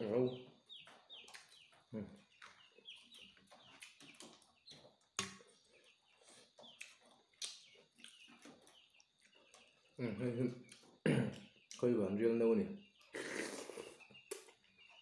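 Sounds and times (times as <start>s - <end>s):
birds peeping: 0.0s - 15.0s.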